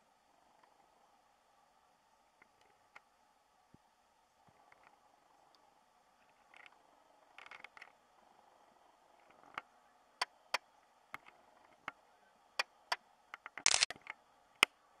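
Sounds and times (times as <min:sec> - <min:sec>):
faint background hiss: 0:00.0 - 0:13.4.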